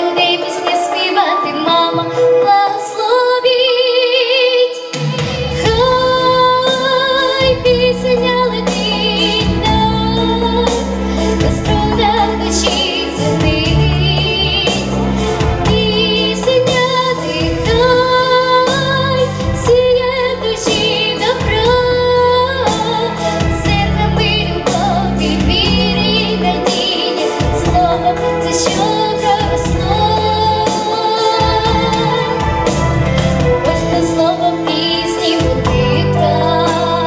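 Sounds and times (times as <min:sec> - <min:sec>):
girl singing into a microphone: 0:00.0 - 0:14.8, 0:15.7 - 0:32.3, 0:33.7 - 0:37.0
instrumental backing track: 0:00.0 - 0:37.0.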